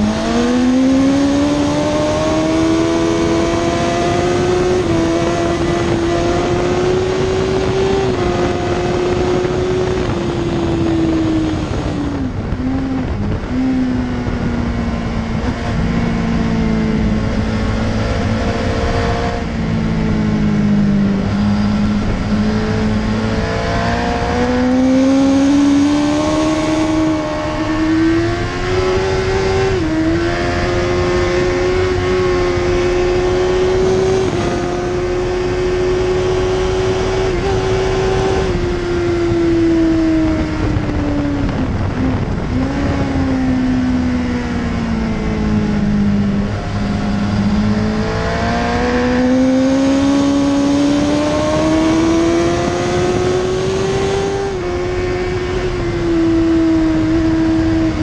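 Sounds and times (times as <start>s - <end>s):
motorcycle engine revving: 0.0s - 58.0s
wind rush: 0.0s - 58.0s.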